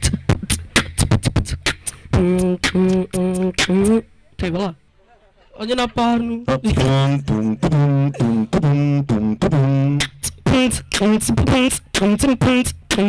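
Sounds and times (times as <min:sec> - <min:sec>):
person beatboxing into microphone: 0:00.0 - 0:04.6, 0:06.1 - 0:13.0.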